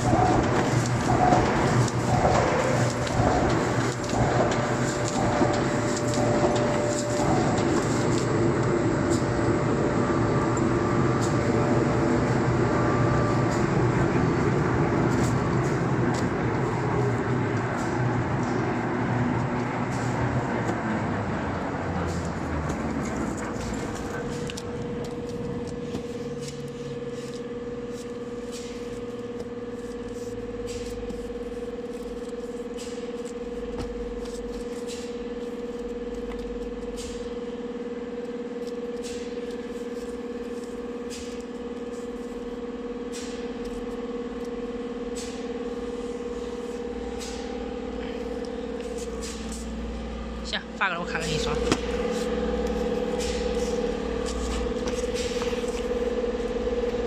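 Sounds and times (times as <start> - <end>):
machine hum and whine: 0.0 - 57.0.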